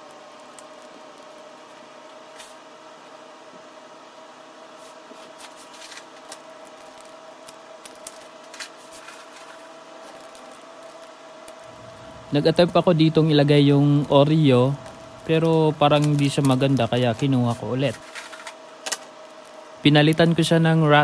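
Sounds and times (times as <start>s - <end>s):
faint clicks and crinkles: 0.0s - 3.2s, 5.2s - 12.8s, 13.7s - 20.5s
steady hum: 0.0s - 21.0s.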